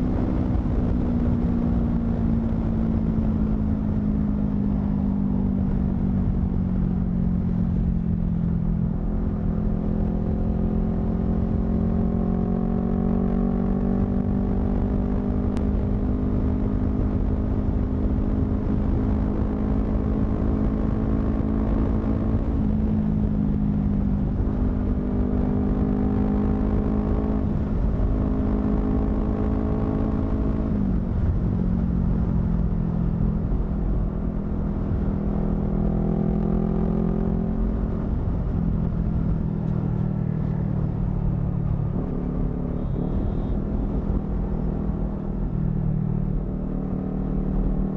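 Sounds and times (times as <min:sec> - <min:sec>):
motorcycle engine while riding: 0:00.0 - 0:47.9
wind rumble on microphone: 0:00.0 - 0:47.9.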